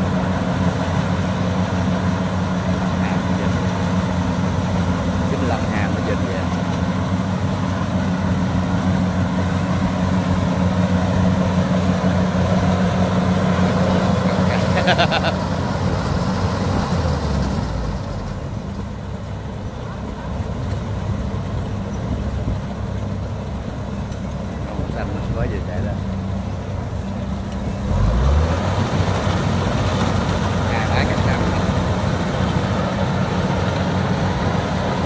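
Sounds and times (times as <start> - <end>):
diesel engine drone: 0.0 - 35.0.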